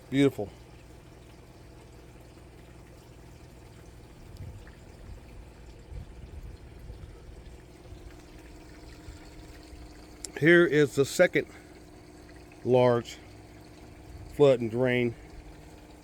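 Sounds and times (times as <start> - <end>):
water pouring into grow bed: 0.0 - 16.0.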